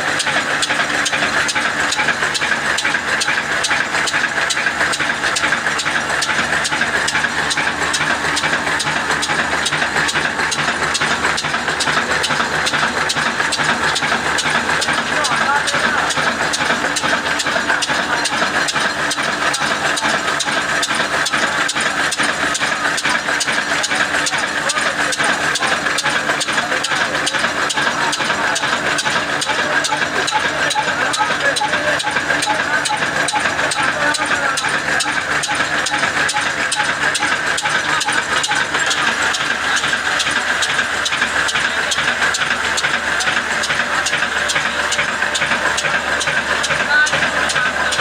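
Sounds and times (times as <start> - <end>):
diesel engine running: 0.0 - 48.0
mechanical clatter: 0.0 - 48.0.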